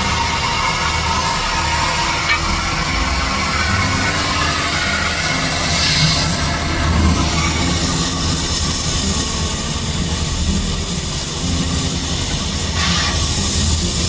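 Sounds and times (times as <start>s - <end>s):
heavy machinery humming: 0.0s - 14.0s.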